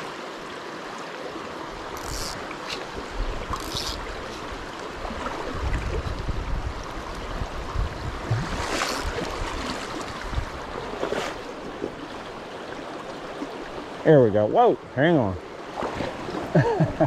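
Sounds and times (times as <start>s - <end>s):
creek flowing over rocks: 0.0s - 16.6s.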